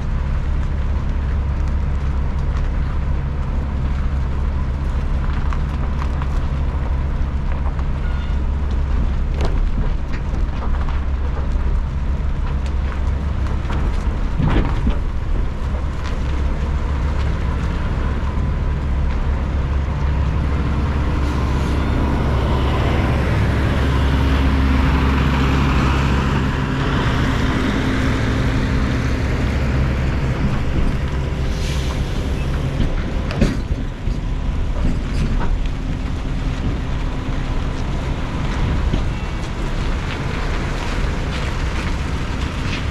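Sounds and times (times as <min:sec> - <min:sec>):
road noise: 0:00.0 - 0:42.9
truck diesel engine: 0:00.0 - 0:42.9.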